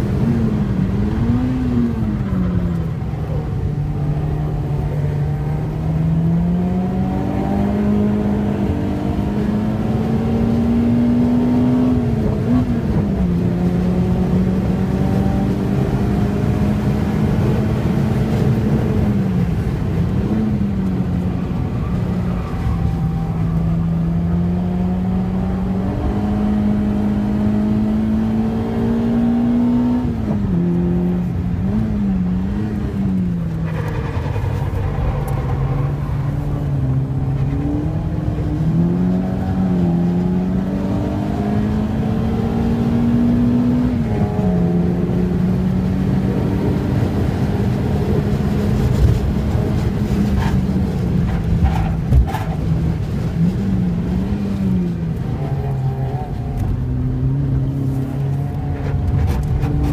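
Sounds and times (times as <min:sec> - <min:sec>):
car engine revving in cabin: 0:00.0 - 0:59.9
road and wind noise: 0:00.0 - 0:59.9.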